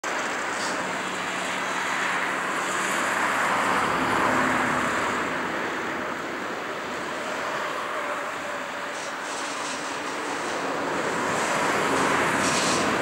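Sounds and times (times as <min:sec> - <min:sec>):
vehicle passing with rushing hiss: 0:00.1 - 0:13.0.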